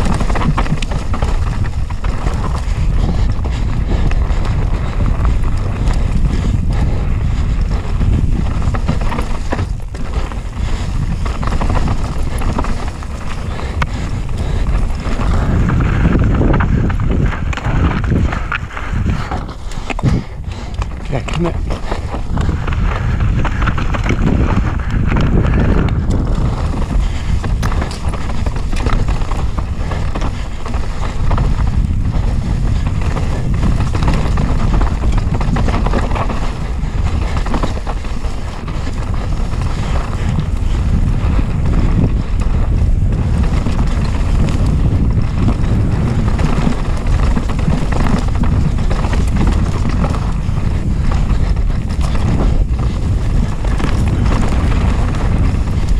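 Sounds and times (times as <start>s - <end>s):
bike knocking and rattling: 0.0s - 55.9s
tyres rumbling over dirt: 0.0s - 55.9s
wind buffeting microphone: 0.0s - 55.9s.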